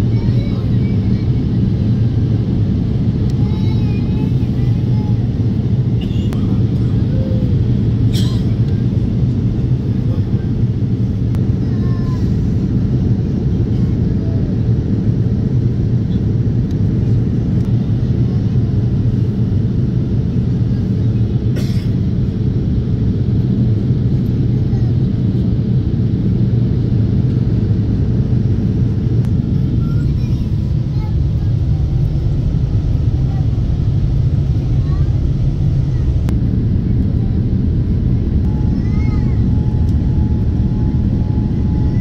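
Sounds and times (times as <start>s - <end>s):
jet airliner cabin roar: 0.0s - 42.0s.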